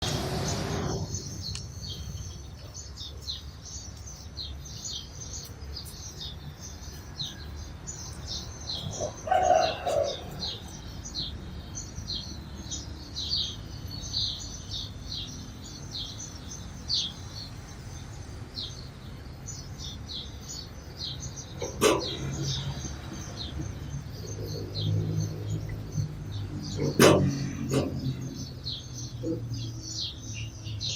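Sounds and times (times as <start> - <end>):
sparrows chirping: 0.0 - 30.9.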